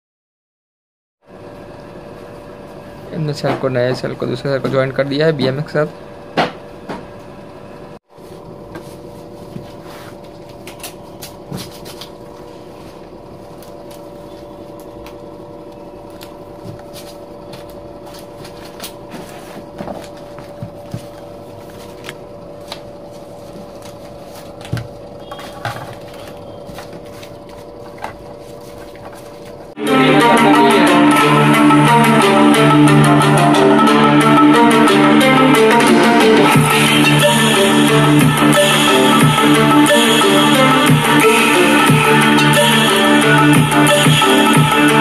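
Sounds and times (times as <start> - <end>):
steady hum with pitched tones: 1.2 - 45.0.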